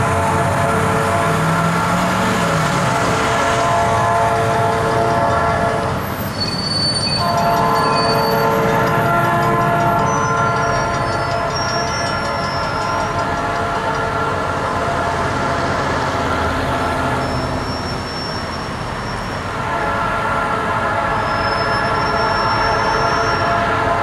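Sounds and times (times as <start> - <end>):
locomotive air horn: 0.0 - 24.0.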